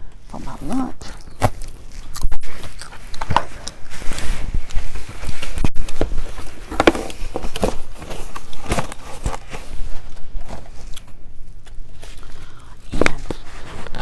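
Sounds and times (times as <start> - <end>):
food packaging rustling: 1.2 - 14.0.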